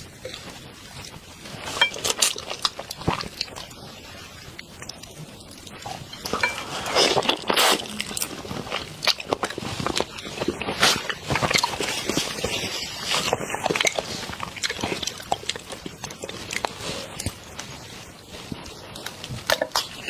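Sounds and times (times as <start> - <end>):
crunchy chewing of shrimp: 0.0 - 20.0.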